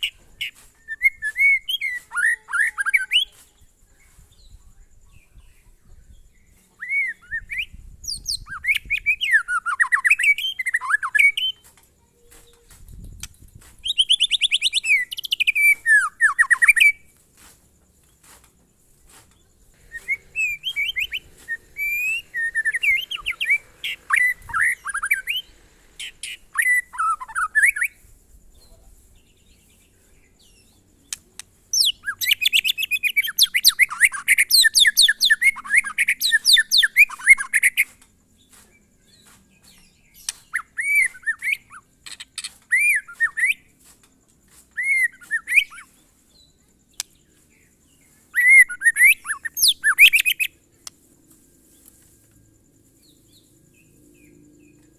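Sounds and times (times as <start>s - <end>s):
bird singing whistled song: 0.0s - 17.2s, 19.4s - 54.9s.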